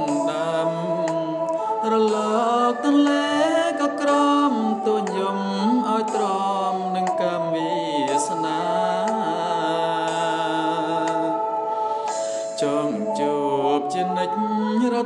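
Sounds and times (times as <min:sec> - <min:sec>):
backing music: 0:00.0 - 0:15.0
person singing: 0:00.0 - 0:15.0.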